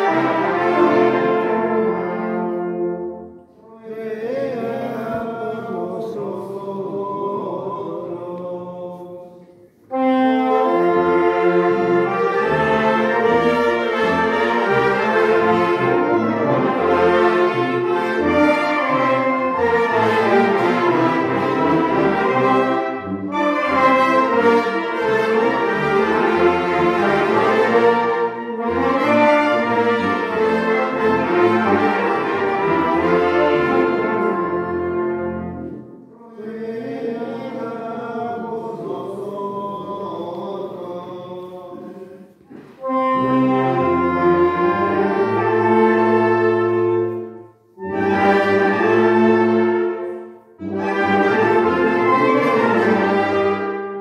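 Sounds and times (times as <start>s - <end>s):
brass band playing: 0.0s - 6.2s, 9.6s - 38.5s, 42.5s - 54.0s.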